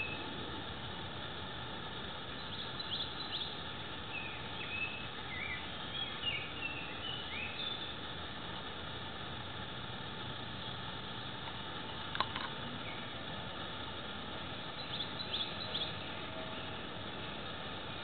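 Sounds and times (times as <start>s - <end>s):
small birds chirping: 0.0s - 0.4s, 1.3s - 18.0s
steady hiss: 0.0s - 18.0s.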